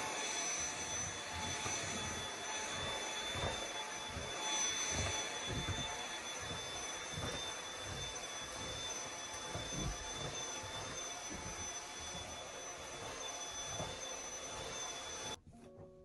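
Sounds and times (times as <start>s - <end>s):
appliance motor whining: 0.0s - 15.8s.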